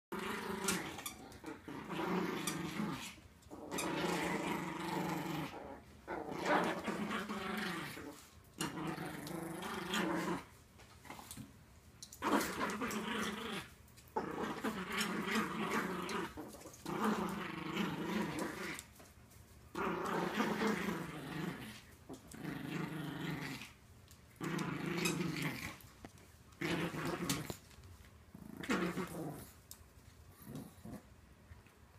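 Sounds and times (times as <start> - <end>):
small dogs growling in play: 0.1 - 19.1, 19.7 - 31.2.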